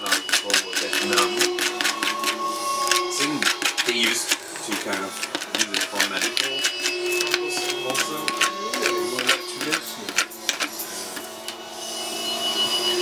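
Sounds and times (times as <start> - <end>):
knife scraping butter on toast: 0.0 - 11.3.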